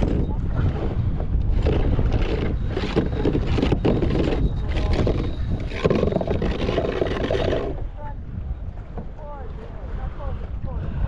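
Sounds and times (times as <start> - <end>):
choppy water splashing: 0.0 - 11.0
wind buffeting microphone: 0.0 - 11.0.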